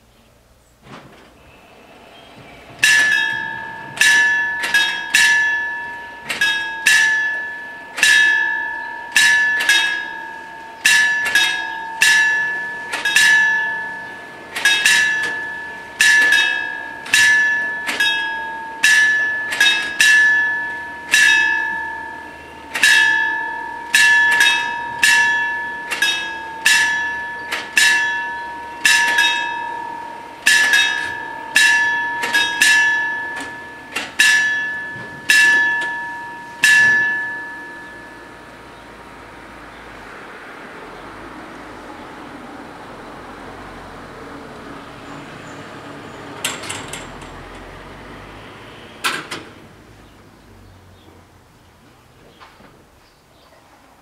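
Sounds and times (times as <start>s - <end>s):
level crossing warning bells ringing: 1.5s - 52.1s.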